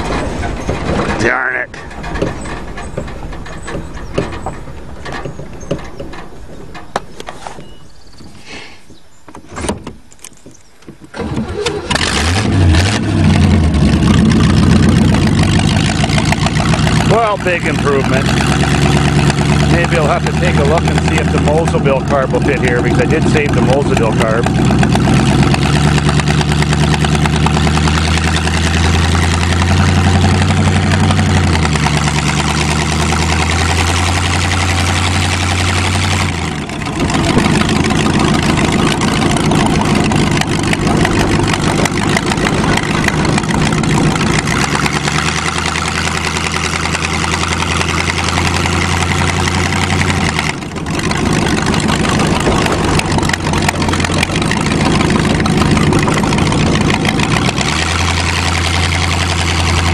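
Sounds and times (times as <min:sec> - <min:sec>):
car engine running: 0:00.0 - 0:08.2, 0:10.6 - 0:59.9
road and wind noise: 0:00.0 - 0:59.9.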